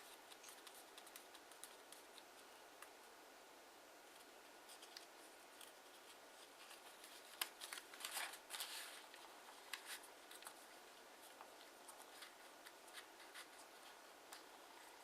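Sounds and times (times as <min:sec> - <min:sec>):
paper crinkling and rustling: 0:00.0 - 0:02.5, 0:04.1 - 0:15.0.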